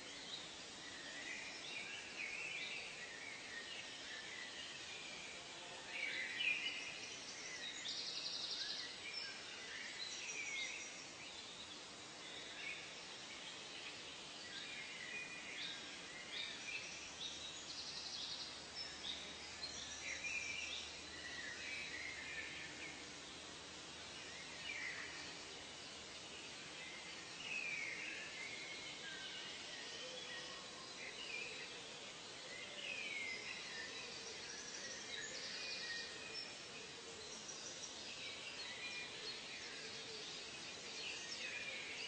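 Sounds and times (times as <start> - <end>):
background hiss: 0.0 - 42.0.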